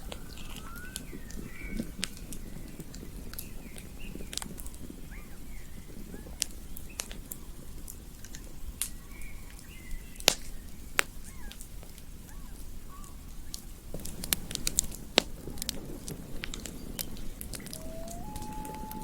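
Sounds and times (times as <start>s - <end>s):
campfire burning: 0.0s - 19.0s.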